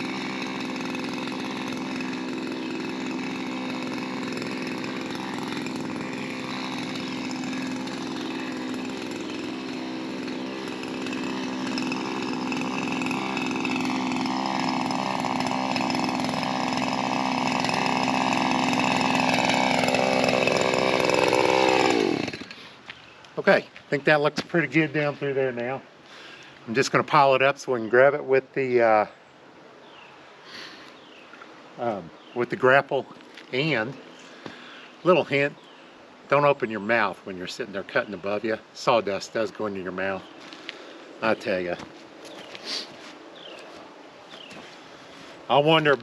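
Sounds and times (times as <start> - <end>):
pole saw engine cutting limbs: 0.0 - 28.5, 30.5 - 46.0.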